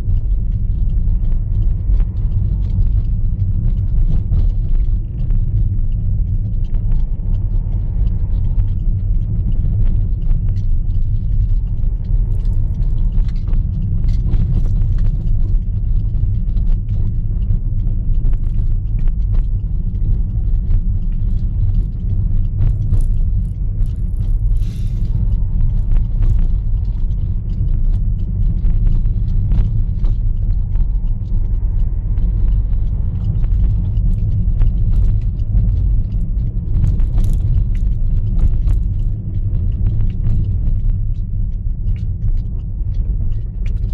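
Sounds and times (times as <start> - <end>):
car engine and road noise: 0.0 - 43.9
faint clicks and rattles: 0.0 - 43.9.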